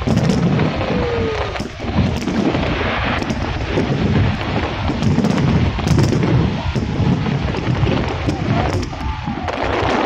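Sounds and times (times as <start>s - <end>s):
fireworks booming: 0.0s - 10.0s
fireworks crackling and popping: 0.0s - 10.0s.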